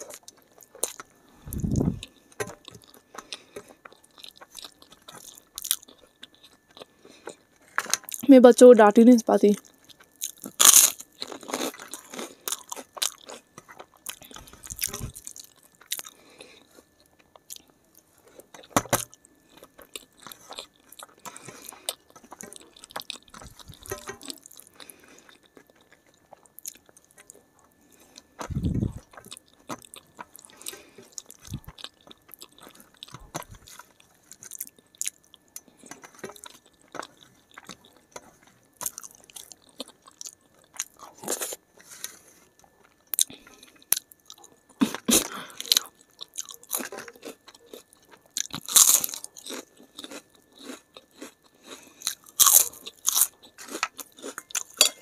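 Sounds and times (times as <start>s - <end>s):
chewing and crunching crisp food: 0.0s - 8.3s, 9.6s - 55.0s.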